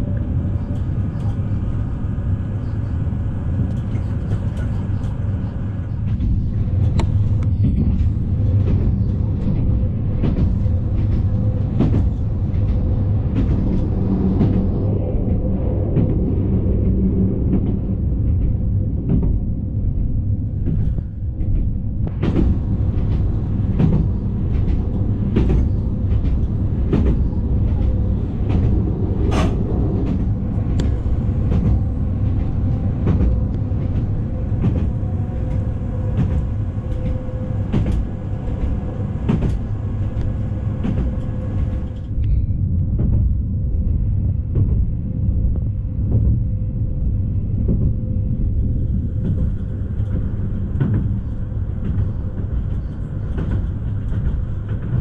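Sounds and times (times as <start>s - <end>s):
train running low rumble: 0.0s - 55.0s.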